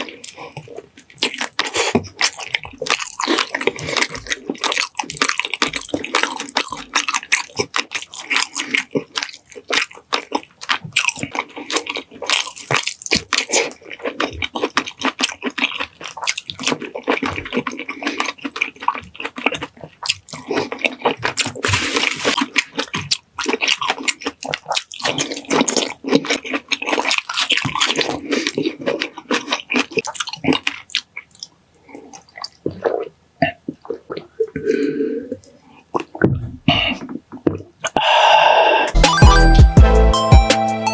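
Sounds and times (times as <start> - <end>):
wet chewing and smacking: 0.0 - 38.1.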